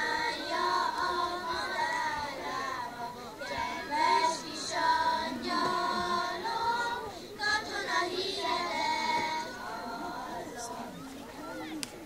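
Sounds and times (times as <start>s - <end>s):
girls singing a folk song: 0.0s - 11.2s.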